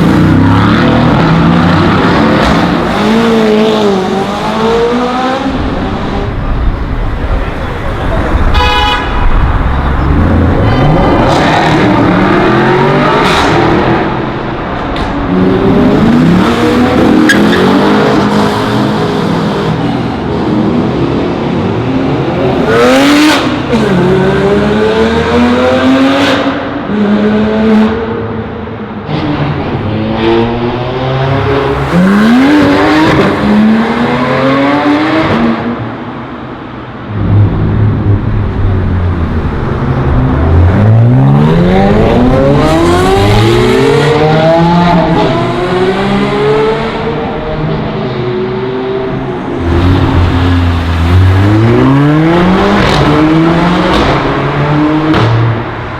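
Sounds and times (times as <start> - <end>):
car engines accelerating hard: 0.0 - 8.5, 9.3 - 55.9.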